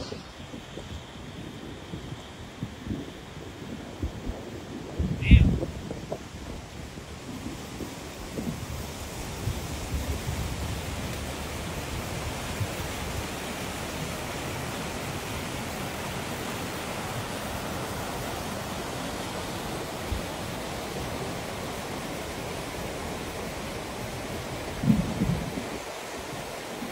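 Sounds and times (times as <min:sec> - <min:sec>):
flood water rushing: 0:00.0 - 0:26.9
wind buffeting microphone: 0:00.0 - 0:26.9.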